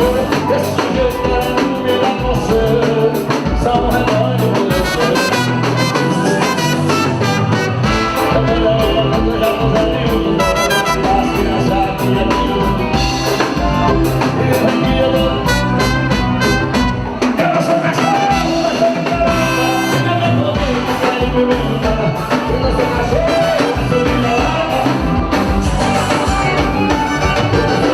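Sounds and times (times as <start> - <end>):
lively music with singing: 0.0 - 27.9.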